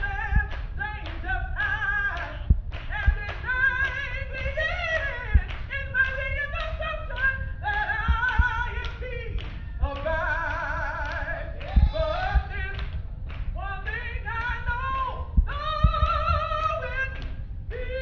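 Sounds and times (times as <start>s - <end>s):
short low thumps: 0.0s - 10.1s, 11.6s - 16.7s
woman singing into a microphone: 0.0s - 18.0s.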